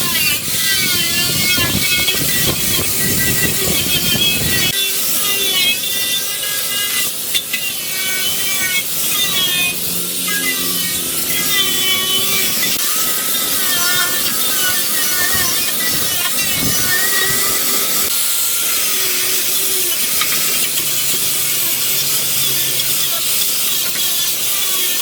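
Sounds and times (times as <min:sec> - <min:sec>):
hand tool scraping: 0:00.0 - 0:25.0.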